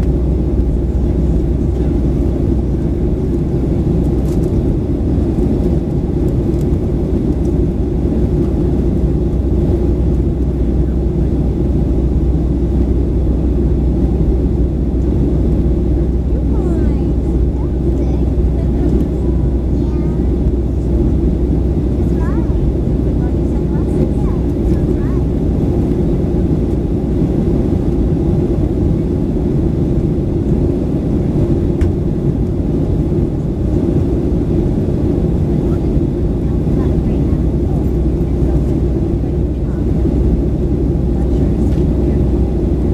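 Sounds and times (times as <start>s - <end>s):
jet engine drone in cabin: 0.0s - 42.9s.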